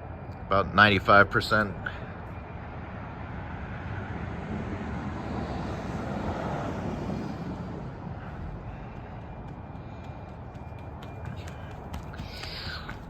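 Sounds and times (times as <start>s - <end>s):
vehicle passing: 0.8s - 13.0s.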